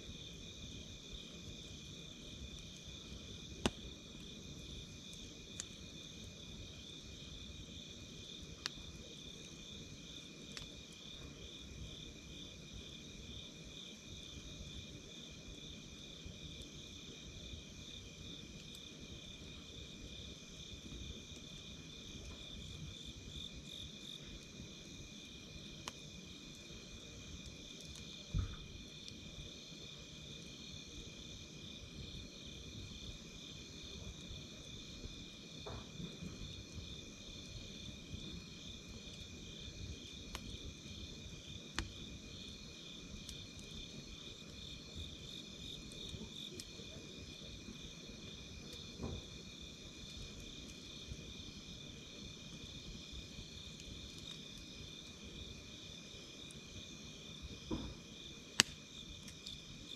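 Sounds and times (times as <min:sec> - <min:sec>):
campfire rustling: 0:00.0 - 0:59.9
fire crackling pops: 0:00.0 - 0:59.9
night insects chorus: 0:00.0 - 0:59.9.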